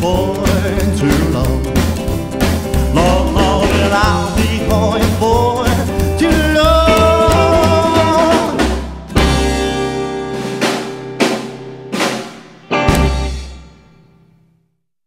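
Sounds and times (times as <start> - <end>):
instrumental rock band music: 0.0 - 14.4.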